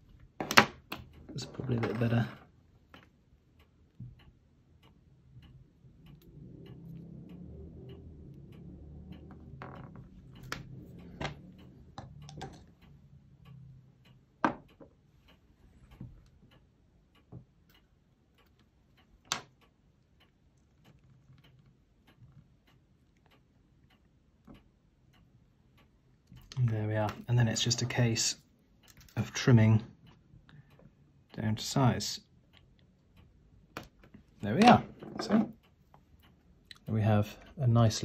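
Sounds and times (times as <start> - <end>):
faint steady ticking: 0.0 - 38.0.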